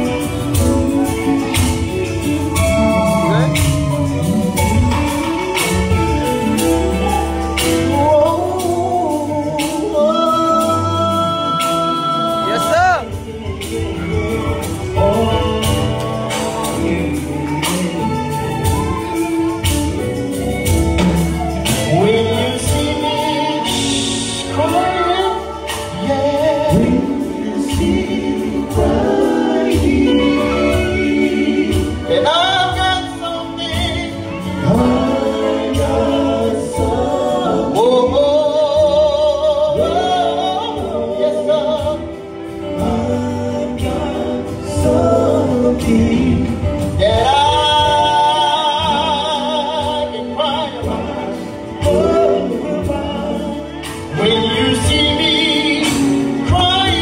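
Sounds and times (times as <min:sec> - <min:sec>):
instrumental backing: 0:00.0 - 0:57.0
male gospel group singing: 0:00.0 - 0:57.0.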